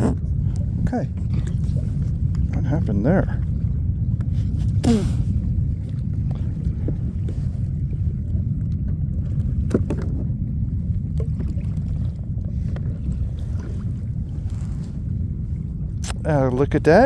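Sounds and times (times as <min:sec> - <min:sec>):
water moving around kayak: 0:00.0 - 0:17.0
wind rumble on microphone: 0:00.0 - 0:17.0.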